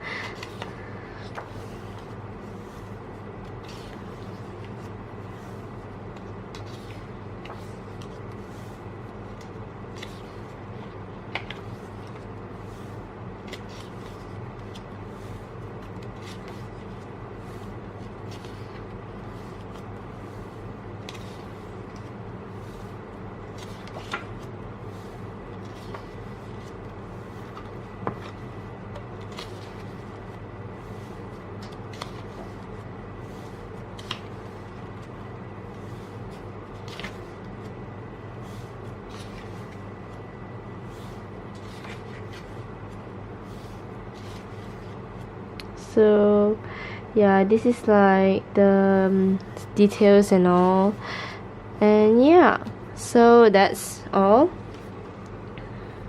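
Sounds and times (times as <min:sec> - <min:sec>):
low background hum: 0:00.0 - 0:56.0
paper pages rustling: 0:00.2 - 0:45.4.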